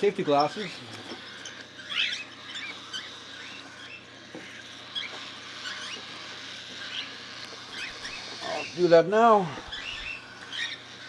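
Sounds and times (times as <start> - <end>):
baby birds squeaky begging chirps: 0.0 - 11.0.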